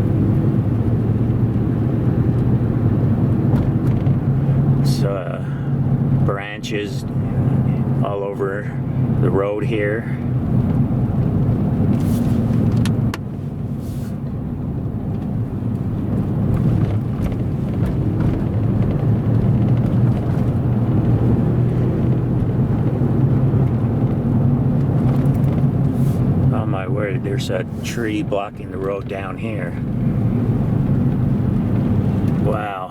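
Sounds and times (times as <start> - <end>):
car engine and road hum: 0.0 - 32.9.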